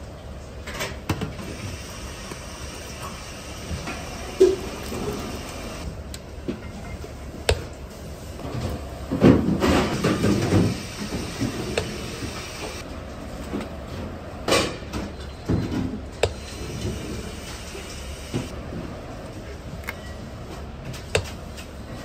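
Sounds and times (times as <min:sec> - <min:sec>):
steady kitchen roar: 0:00.0 - 0:22.0.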